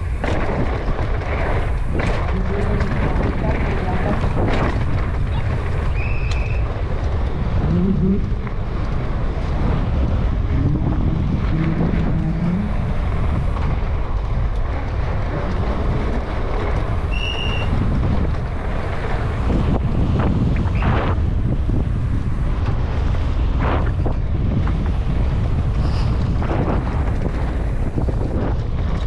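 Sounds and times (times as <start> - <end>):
bike tyres rumbling and rattling: 0.0 - 29.0
wind buffeting microphone: 0.0 - 29.0.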